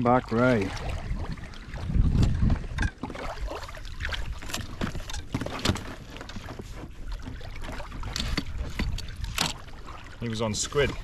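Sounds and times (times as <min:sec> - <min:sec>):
water lapping against kayak hull: 0:00.0 - 0:11.0.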